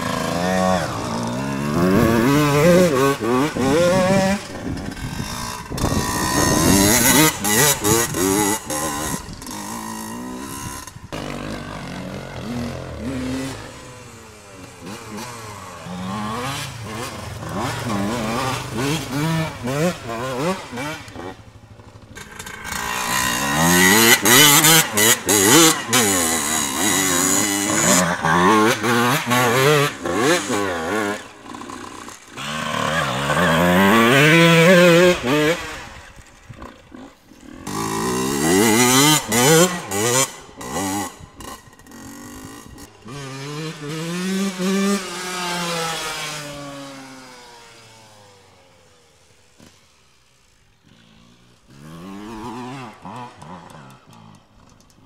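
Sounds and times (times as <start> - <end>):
off-road motorcycle engines revving: 0.0 - 55.0.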